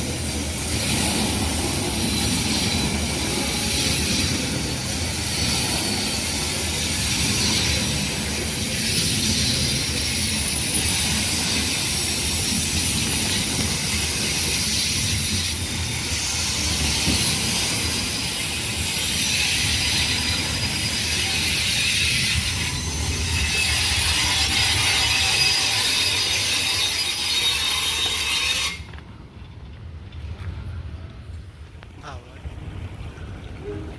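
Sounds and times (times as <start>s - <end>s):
high hiss of passing train: 0.0s - 29.2s
train cars rumbling on rails: 0.0s - 33.9s.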